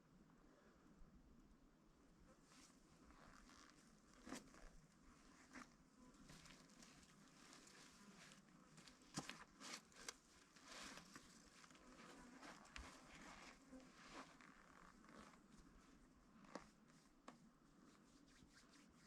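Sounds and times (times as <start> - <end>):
rustling and crinkling: 2.4 - 19.0.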